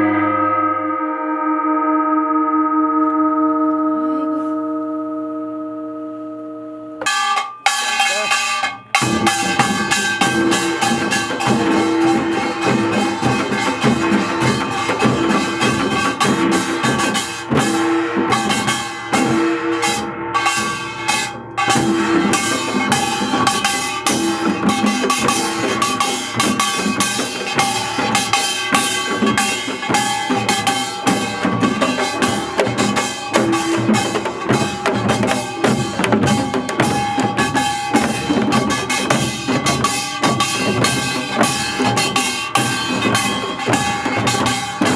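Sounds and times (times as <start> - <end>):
held melodic tones: 1.8 - 44.9
drum kit beat: 7.0 - 44.9.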